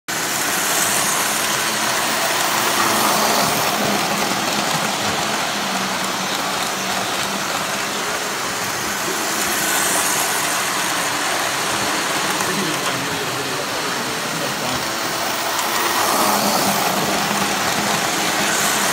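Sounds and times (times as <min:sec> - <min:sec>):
model train wheels rumbling on track: 0:00.1 - 0:18.9.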